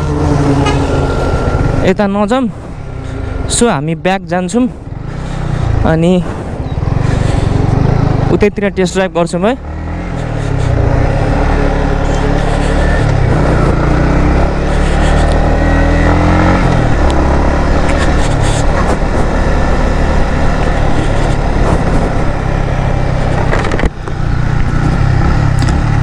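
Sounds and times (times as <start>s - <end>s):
heavy rush of noise: 0.0s - 26.0s
motorcycle engine running: 0.0s - 26.0s.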